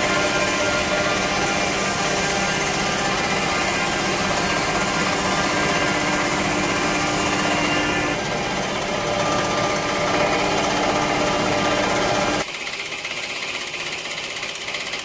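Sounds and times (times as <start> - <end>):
stone grinding machine running: 0.0 - 15.0.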